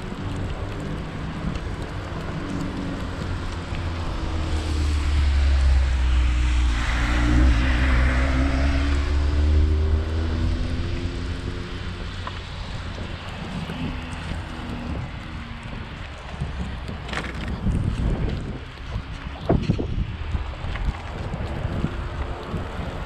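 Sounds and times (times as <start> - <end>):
car passing: 0.0 - 19.5
wind rumble on microphone: 0.0 - 23.0.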